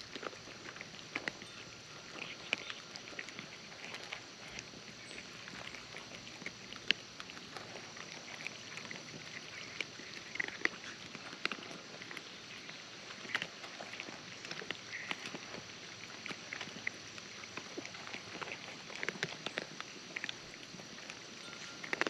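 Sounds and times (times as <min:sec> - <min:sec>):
cats chewing and licking: 0:00.0 - 0:22.0.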